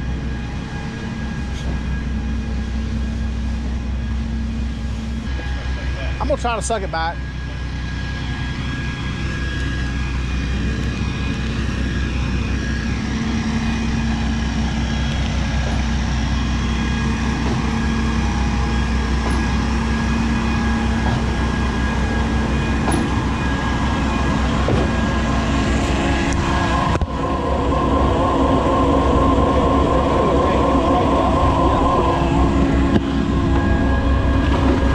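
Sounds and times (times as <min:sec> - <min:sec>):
engine running under load: 0:00.0 - 0:34.9
hydraulic whine: 0:00.0 - 0:34.9.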